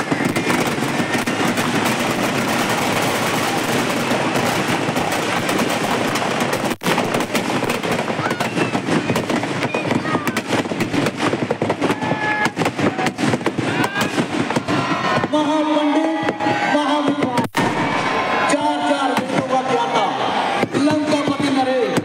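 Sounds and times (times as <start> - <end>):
crowd voices: 0.0 - 6.6, 7.3 - 22.0
firecrackers crackling: 0.0 - 22.0.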